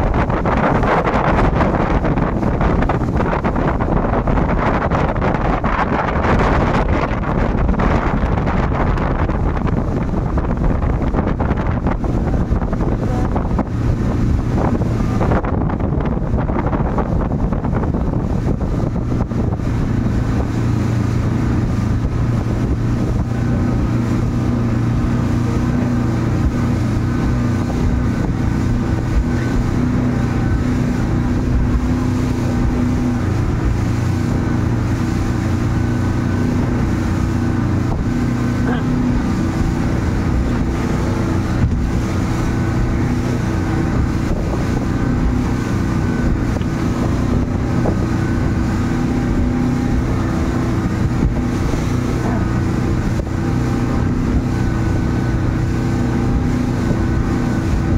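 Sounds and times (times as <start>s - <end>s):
outboard motor running: 0.0s - 57.9s
wind buffeting microphone: 0.0s - 57.9s.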